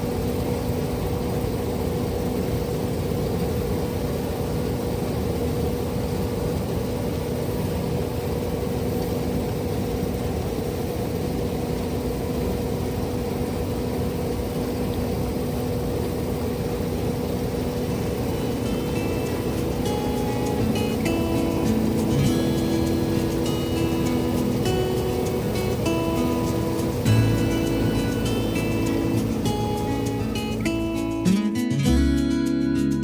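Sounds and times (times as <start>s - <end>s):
combine harvester drone: 0.0s - 33.0s.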